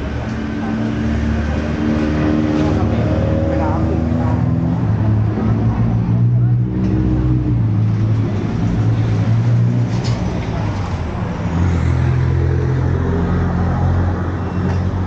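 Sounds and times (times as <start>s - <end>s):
street traffic: 0.0s - 15.0s
vehicle engine humming nearby: 0.0s - 15.0s.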